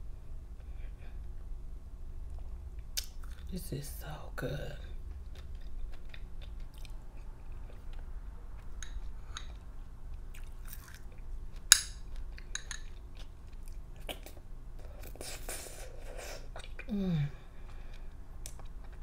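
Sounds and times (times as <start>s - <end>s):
soft chewing: 2.2s - 3.5s, 4.8s - 19.0s.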